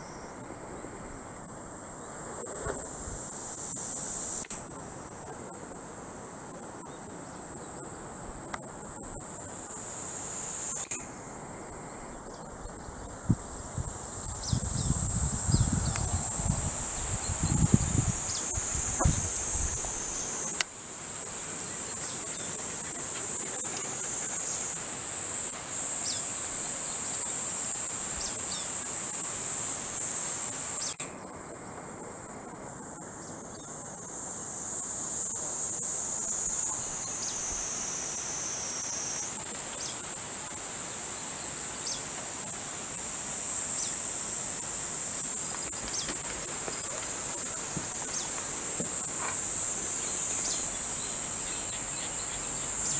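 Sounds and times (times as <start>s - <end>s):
cicadas buzzing: 0.0s - 52.9s.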